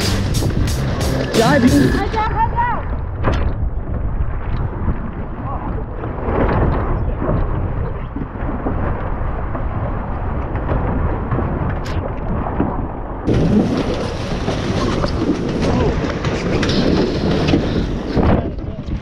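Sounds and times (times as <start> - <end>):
water rushing and splashing: 0.0 - 19.0
wind buffeting microphone: 0.0 - 19.0.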